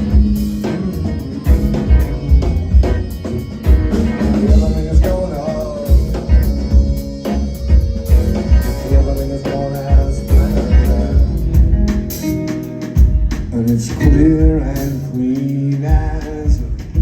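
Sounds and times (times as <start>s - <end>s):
bass: 0.0s - 17.0s
drum kit groove: 0.0s - 17.0s
guitar: 0.0s - 17.0s.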